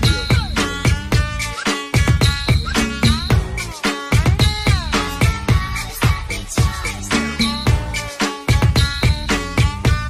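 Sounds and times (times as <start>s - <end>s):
upbeat dance music: 0.0s - 10.0s.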